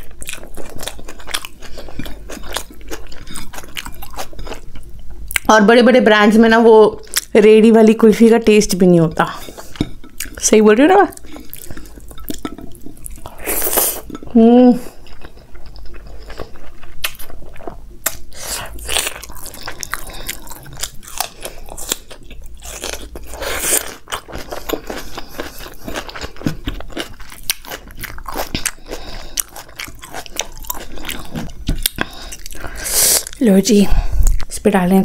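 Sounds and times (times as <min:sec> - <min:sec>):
chewing and crunching: 0:00.0 - 0:05.5, 0:09.1 - 0:33.4.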